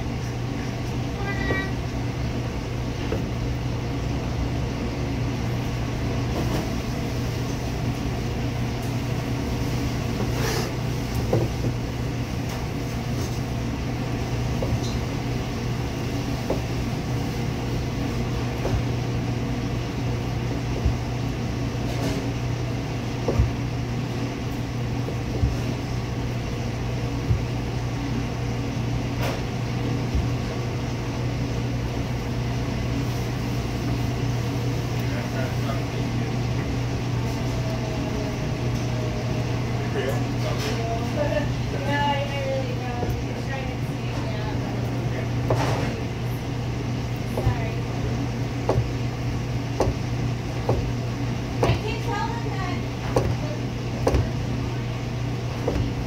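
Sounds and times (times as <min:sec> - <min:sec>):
kitchen machinery hum: 0:00.0 - 0:56.0.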